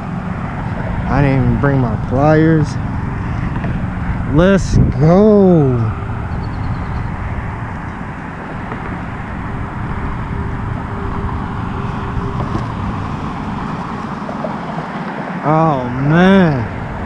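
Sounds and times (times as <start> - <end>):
faint steady hum: 0.0 - 14.8
rumbling outdoor hiss: 0.0 - 17.0.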